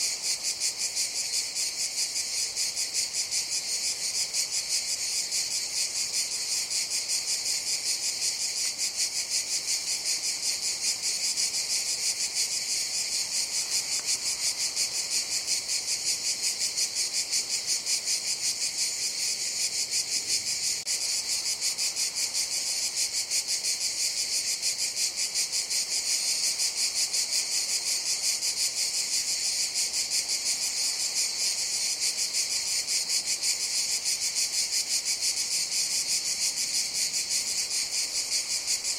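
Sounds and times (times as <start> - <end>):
cicadas singing: 0.0 - 38.9.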